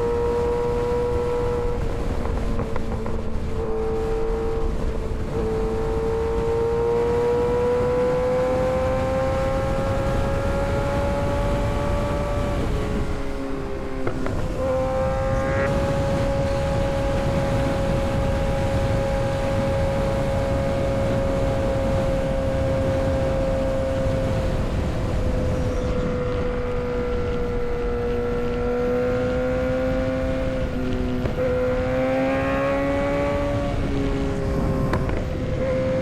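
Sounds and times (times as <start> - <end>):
motorcycle engine cruising: 0.0 - 36.0
wind rush: 0.0 - 36.0.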